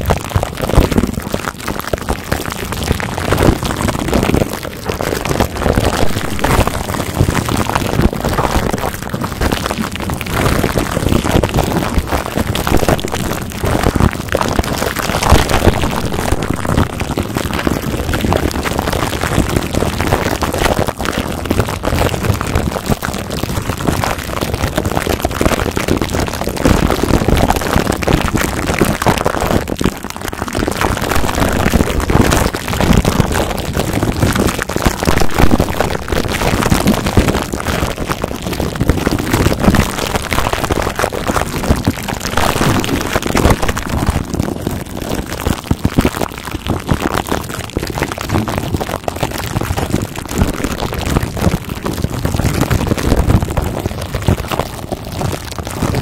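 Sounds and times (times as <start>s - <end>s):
plastic wrap crinkling on microphone: 0.0s - 56.0s.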